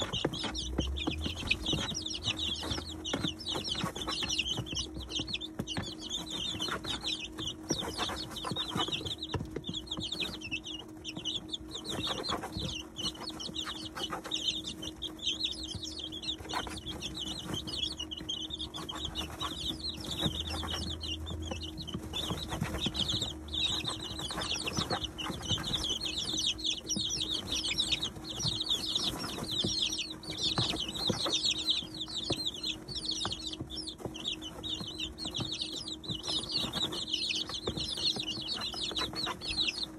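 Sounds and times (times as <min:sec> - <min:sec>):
beaks ticking on feeder: 0:00.0 - 0:39.9
chicks peeping: 0:00.0 - 0:39.9
steady low hum: 0:00.0 - 0:39.9.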